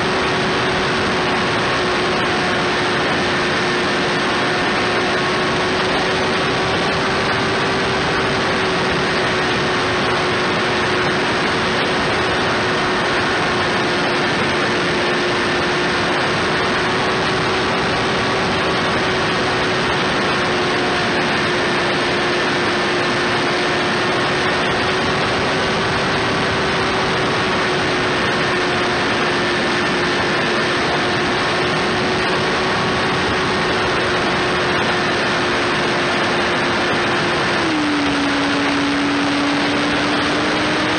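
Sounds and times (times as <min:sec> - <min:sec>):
electric motor and propeller whine: 0:00.0 - 0:40.9.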